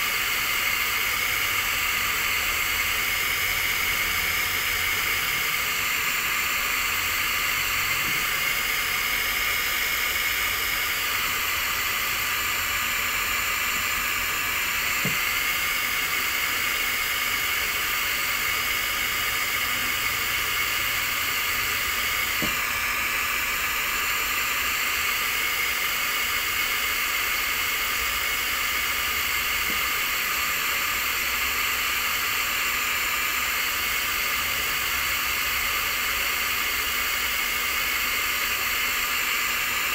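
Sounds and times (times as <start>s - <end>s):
hot-air gun hissing: 0.0s - 39.9s.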